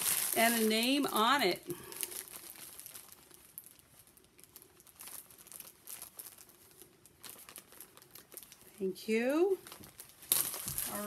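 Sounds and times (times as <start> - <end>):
bag rustling and crinkling: 0.0 - 11.0.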